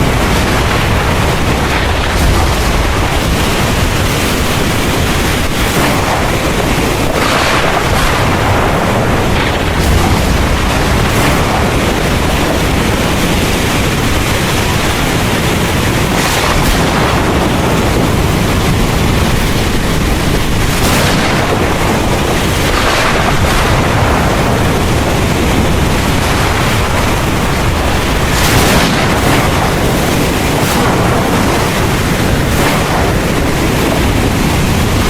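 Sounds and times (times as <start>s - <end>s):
heavy rain falling: 0.0s - 35.0s
low rumble of thunder: 0.0s - 35.0s
wind: 0.0s - 35.0s.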